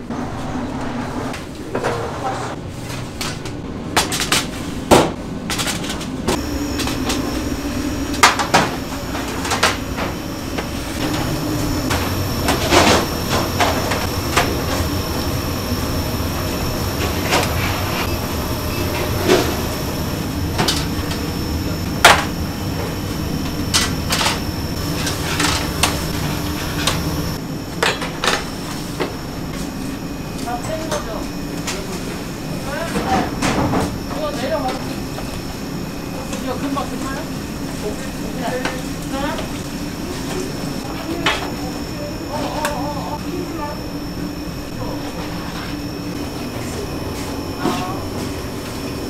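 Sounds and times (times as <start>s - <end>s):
machine hum: 4.7s - 49.0s.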